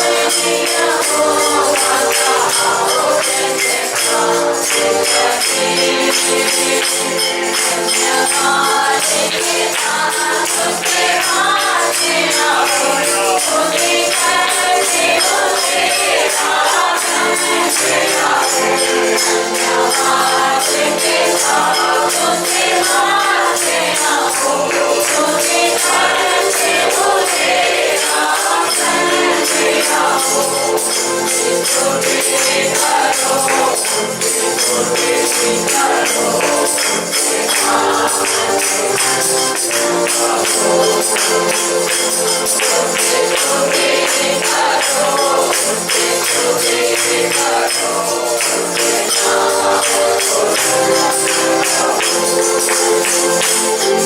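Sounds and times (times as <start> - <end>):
group of voices singing: 0.0 - 54.0
tambourine shaken: 0.0 - 54.0.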